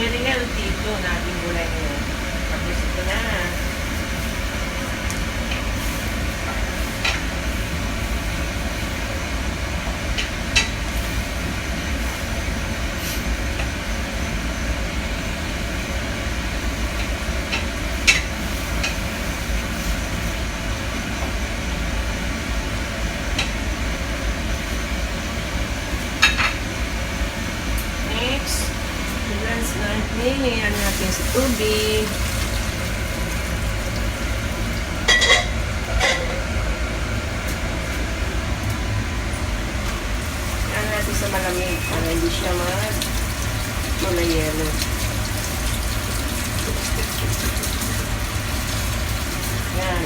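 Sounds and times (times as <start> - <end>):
pot of water boiling: 0.0 - 50.0.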